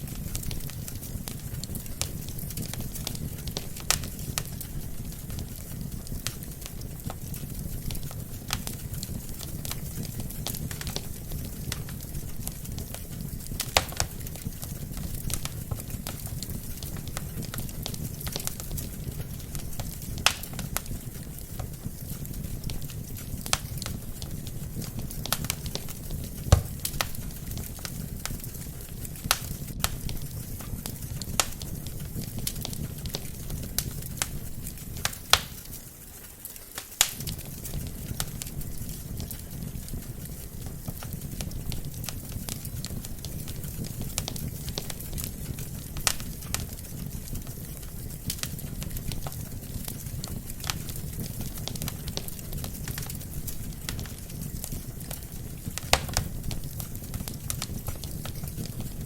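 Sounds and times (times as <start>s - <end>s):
burning logs crackling and popping: 0.0s - 59.0s
low rumble of flames: 0.0s - 59.0s.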